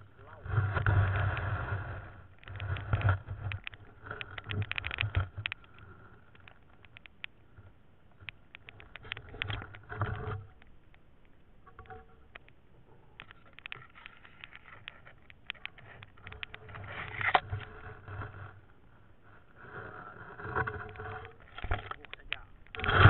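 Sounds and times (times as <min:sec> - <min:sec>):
underwater clicks and knocks: 0:02.4 - 0:18.6, 0:20.4 - 0:23.0.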